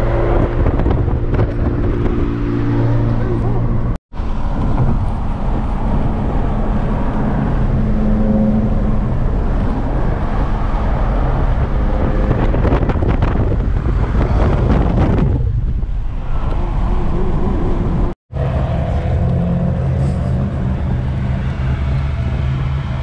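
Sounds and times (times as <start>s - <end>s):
car engine running at speed: 0.0s - 19.9s
wind and road rumble: 0.0s - 23.0s.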